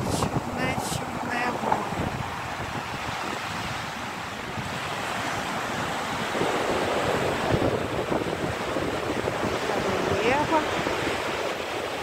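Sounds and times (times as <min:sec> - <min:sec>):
strong wind buffeting microphone: 0:00.0 - 0:12.0
surf washing onto beach: 0:00.0 - 0:12.0.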